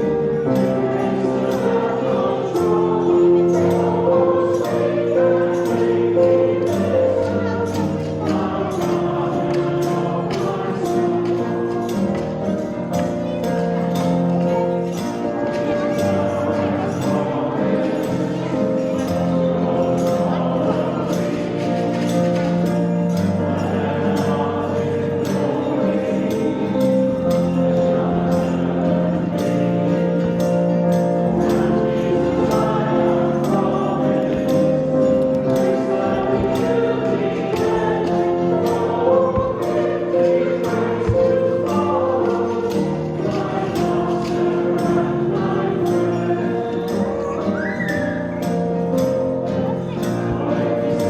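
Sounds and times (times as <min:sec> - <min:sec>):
group singing worship song: 0:00.0 - 0:51.0
held chords: 0:00.0 - 0:51.0
tambourine strokes: 0:00.0 - 0:51.0.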